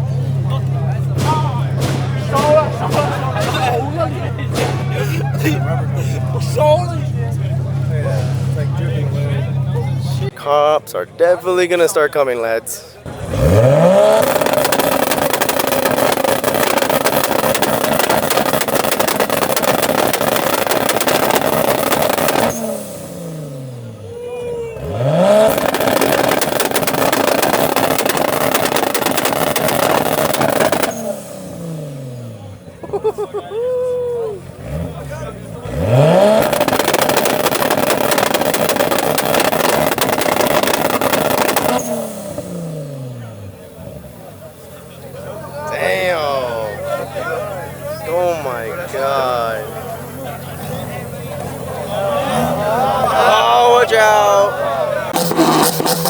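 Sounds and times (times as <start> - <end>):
car engine revving with crackle: 0.0 - 10.3, 13.0 - 24.0, 24.8 - 32.8, 34.4 - 56.0.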